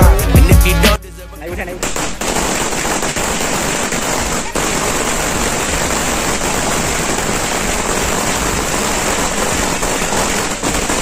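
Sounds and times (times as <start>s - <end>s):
firecrackers crackling: 1.7s - 11.0s.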